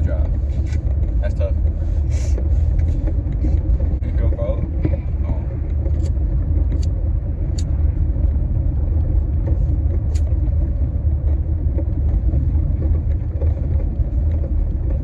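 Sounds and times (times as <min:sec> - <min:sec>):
car rumble on snowy road: 0:00.0 - 0:15.0.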